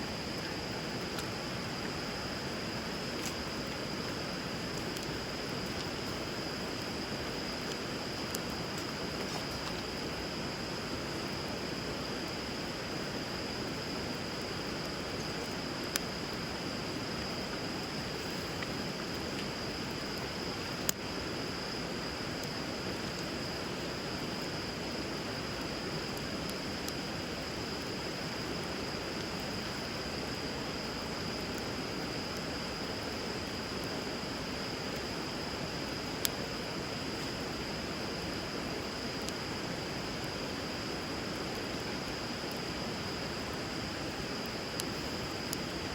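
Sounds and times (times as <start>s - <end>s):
bonfire burning: 0.0s - 45.9s.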